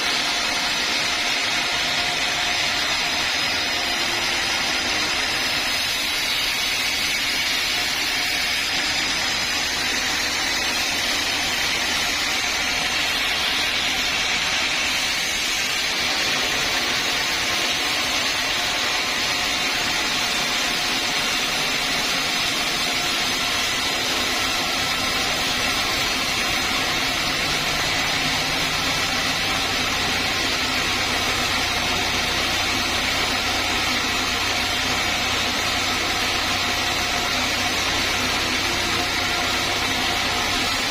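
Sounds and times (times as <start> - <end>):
sawmill saw machinery whirring: 0.0 - 40.9.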